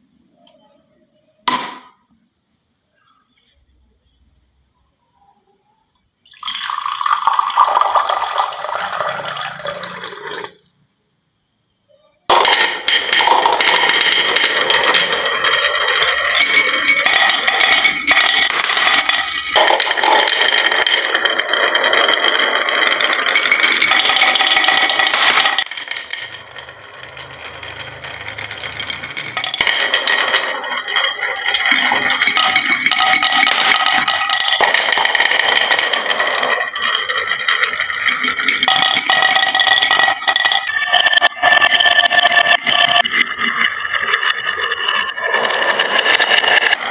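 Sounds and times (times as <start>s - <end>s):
marbles rattling down wooden run: 6.4s - 10.6s, 12.3s - 46.9s.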